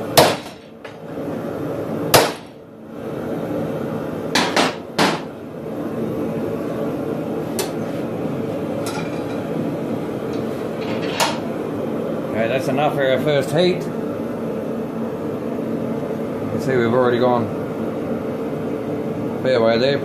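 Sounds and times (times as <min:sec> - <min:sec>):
forge running: 0:00.0 - 0:20.0.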